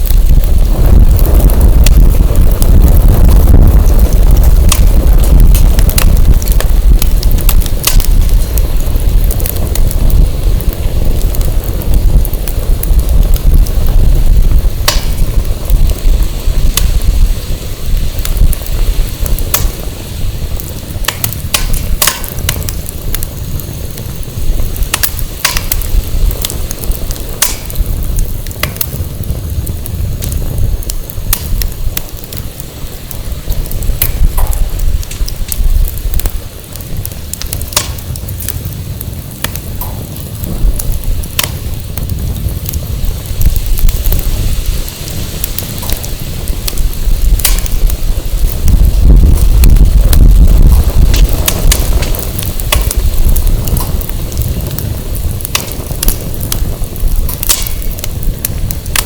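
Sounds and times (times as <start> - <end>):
wind rumble on microphone: 0.0 - 59.0
wood fire crackling: 0.0 - 59.0.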